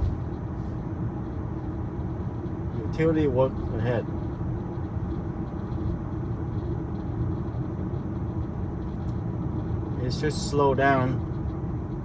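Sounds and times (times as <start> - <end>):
road and tyre rumble inside car: 0.0 - 12.0.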